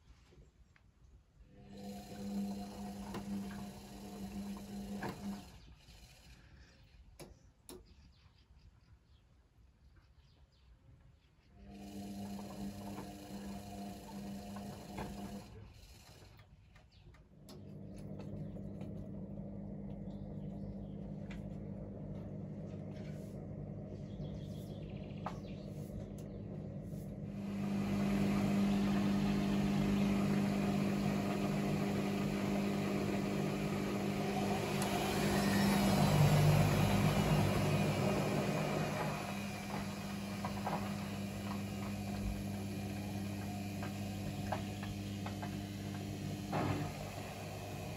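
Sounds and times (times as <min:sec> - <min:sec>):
washing machine spinning: 0:01.5 - 0:06.4, 0:11.6 - 0:16.4, 0:17.3 - 0:47.9.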